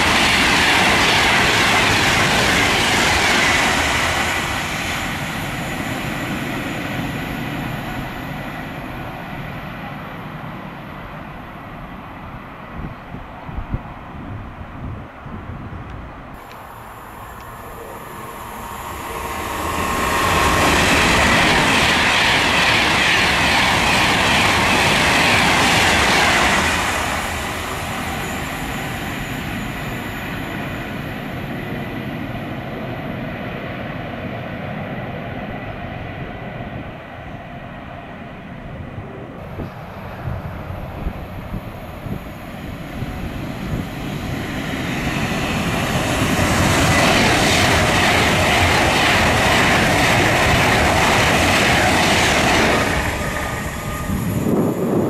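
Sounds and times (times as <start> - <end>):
train wheels rushing on rails: 0.0 - 55.0.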